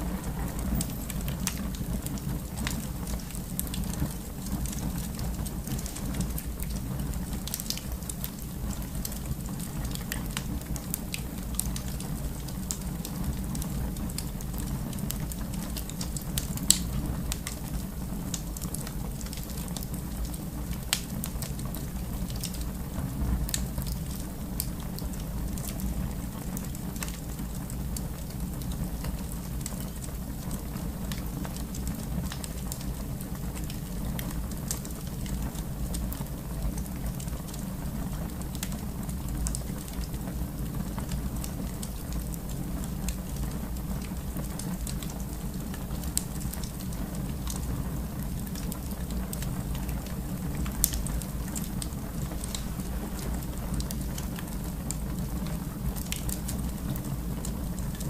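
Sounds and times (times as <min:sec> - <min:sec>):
fire popping and snapping: 0:00.0 - 0:58.0
fire rumbling: 0:00.0 - 0:58.0.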